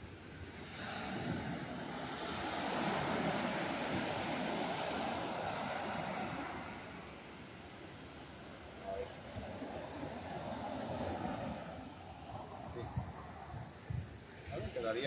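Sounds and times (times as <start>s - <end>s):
wave breaking on beach: 0.6s - 7.3s, 8.7s - 14.9s.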